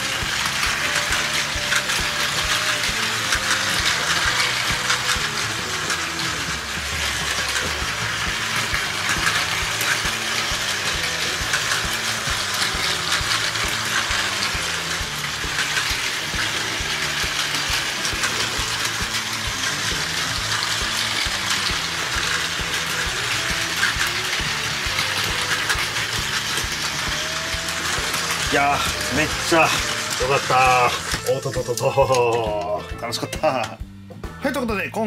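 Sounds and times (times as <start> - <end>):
toy train motors whirring: 0.0 - 34.7
wheels clicking over track joints: 0.0 - 35.0.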